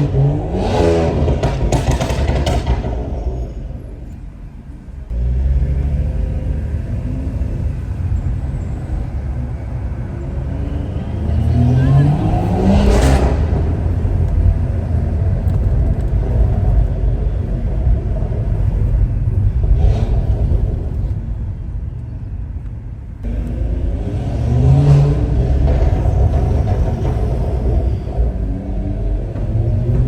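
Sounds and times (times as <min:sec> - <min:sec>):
exhaust crack: 0:00.0 - 0:07.0, 0:07.6 - 0:30.0
car exhaust rumble and revving: 0:00.0 - 0:30.0.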